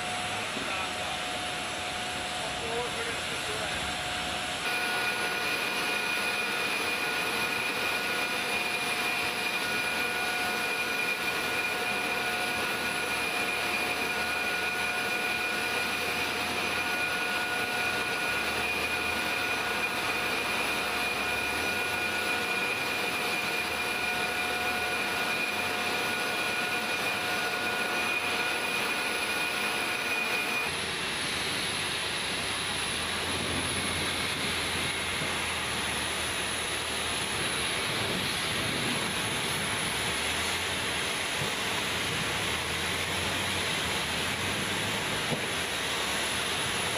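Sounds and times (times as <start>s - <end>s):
jet turbine high whine: 0.0s - 46.9s
jet turbine rush: 0.0s - 46.9s.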